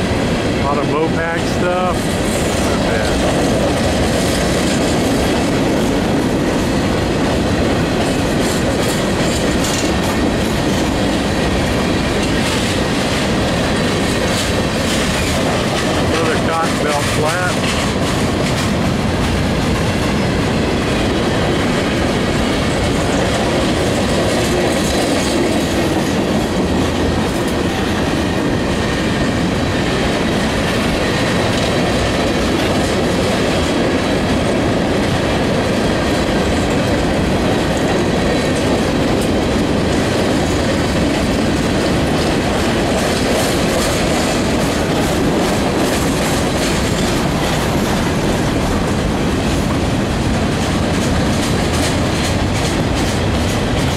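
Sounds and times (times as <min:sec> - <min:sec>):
freight train rolling past: 0:00.0 - 0:53.9
wheel clacks: 0:00.2 - 0:29.2, 0:29.8 - 0:53.9.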